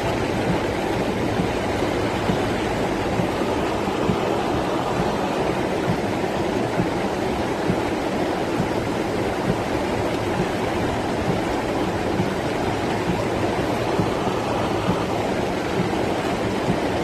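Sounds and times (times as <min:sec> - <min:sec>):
rainwater rushing down street: 0:00.0 - 0:17.0.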